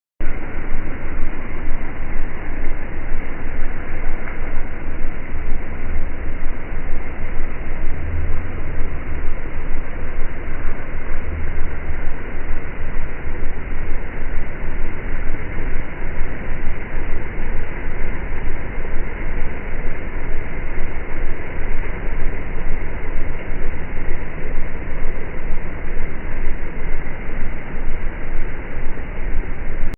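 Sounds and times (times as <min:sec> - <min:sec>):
low rumble: 0:00.2 - 0:29.9
rain falling steadily: 0:00.2 - 0:29.9.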